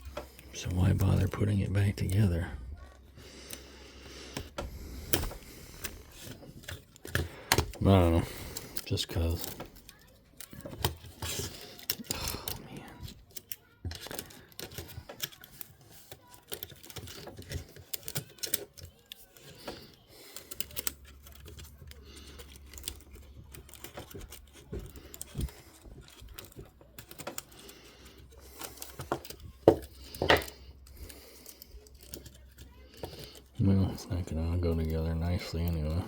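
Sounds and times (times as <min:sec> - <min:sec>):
small plastic and metal clicks: 0:04.3 - 0:36.0.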